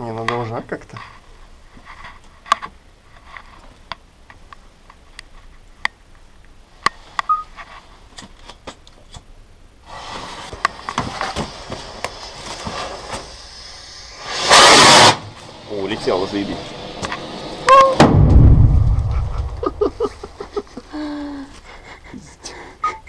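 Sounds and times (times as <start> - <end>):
firework fuse crackling hiss: 0.3 - 18.0, 18.7 - 22.2.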